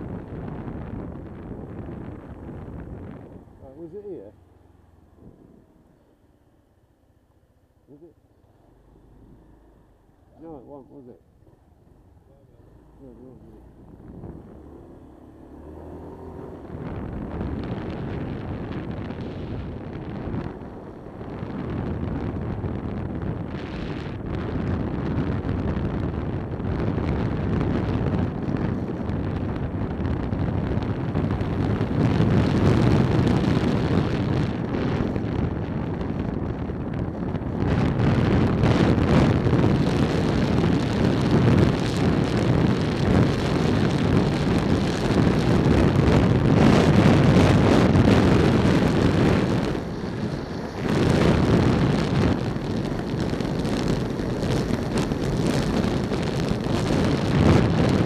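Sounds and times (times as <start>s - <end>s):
wind buffeting microphone: 0.0s - 4.4s, 11.8s - 58.0s
scooter engine: 0.0s - 58.0s.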